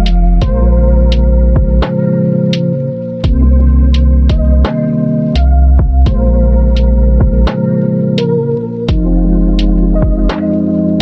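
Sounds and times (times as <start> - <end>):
deep bass: 0.0 - 11.0
sustained keyboard chords: 0.0 - 11.0.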